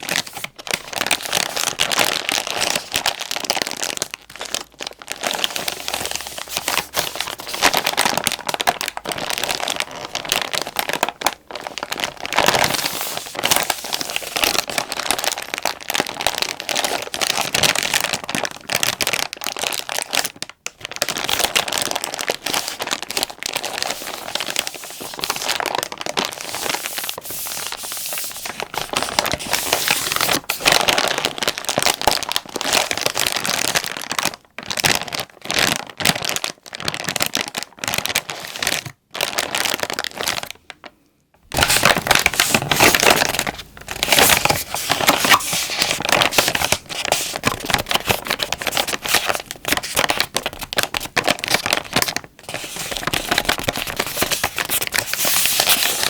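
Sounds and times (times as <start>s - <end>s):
plastic pack crinkling: 0.0s - 56.0s.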